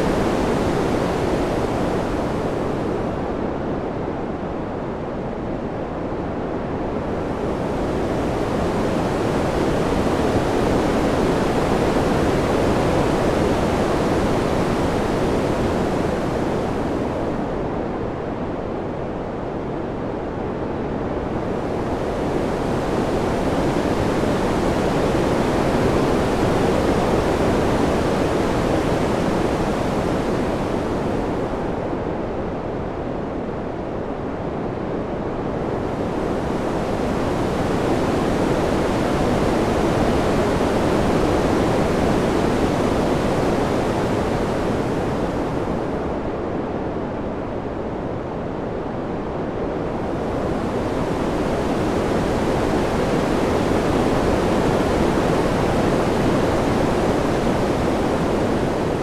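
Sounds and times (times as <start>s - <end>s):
rushing wind: 0.0s - 59.0s.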